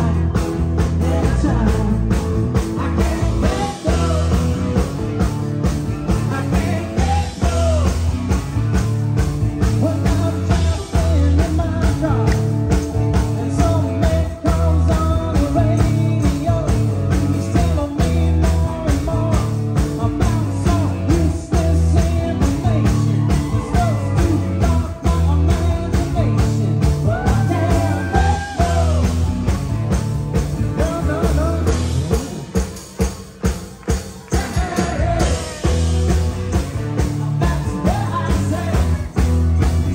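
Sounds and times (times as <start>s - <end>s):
lead vocal singing: 0.0s - 5.2s, 5.9s - 8.4s, 9.6s - 29.4s, 30.6s - 32.8s, 34.0s - 36.1s, 36.8s - 39.9s
drum kit beat: 0.0s - 39.9s
rock band playing: 0.0s - 39.9s.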